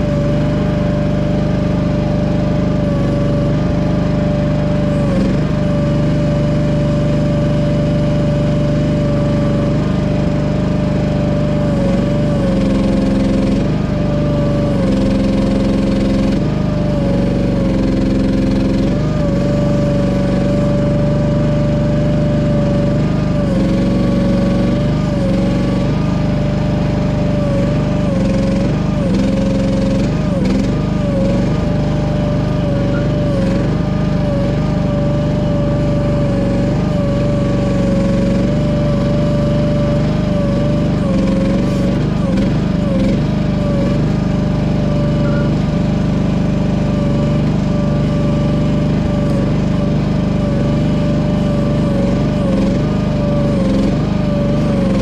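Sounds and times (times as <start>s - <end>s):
mini excavator engine running: 0.0s - 55.0s.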